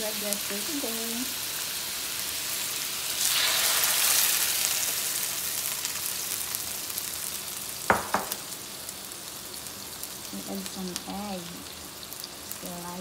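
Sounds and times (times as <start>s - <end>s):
egg sizzling in hot oil: 0.0s - 13.0s.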